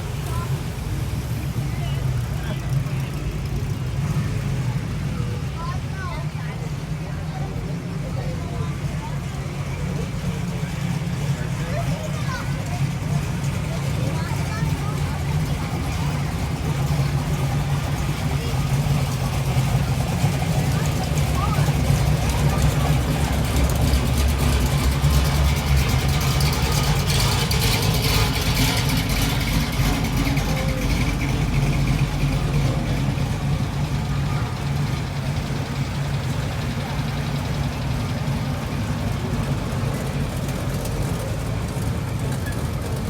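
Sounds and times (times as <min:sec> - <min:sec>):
car engine running: 0:00.0 - 0:43.0.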